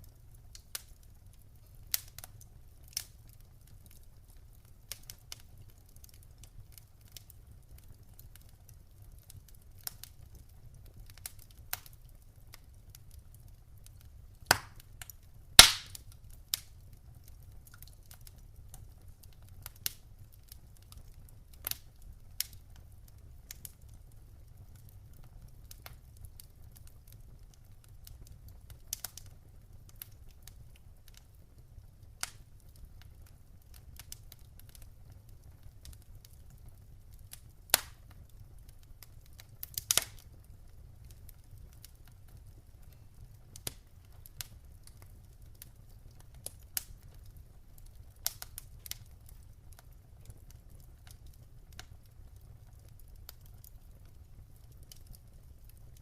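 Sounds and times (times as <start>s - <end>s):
burning logs popping: 0.0s - 56.0s
wood fire crackling: 0.0s - 56.0s.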